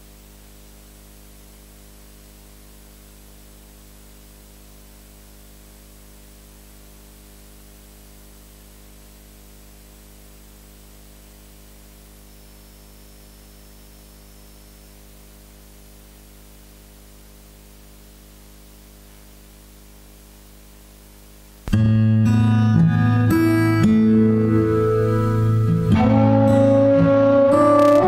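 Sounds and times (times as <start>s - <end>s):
faint high whine: 0.0s - 28.0s
steady electrical hum: 0.0s - 28.0s.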